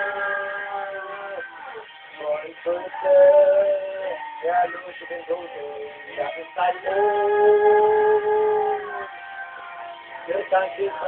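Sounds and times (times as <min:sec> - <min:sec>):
music with singing: 0:00.0 - 0:11.0.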